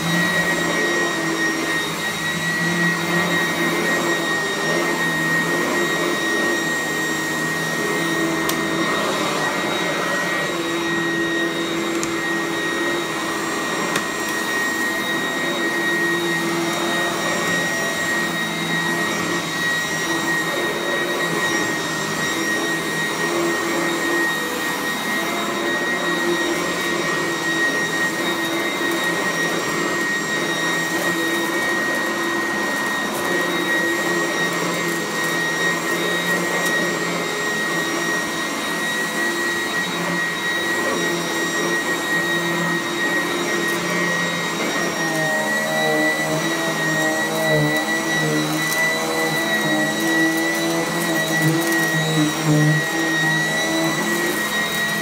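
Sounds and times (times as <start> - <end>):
upright vacuum running on carpet: 0.0 - 55.0.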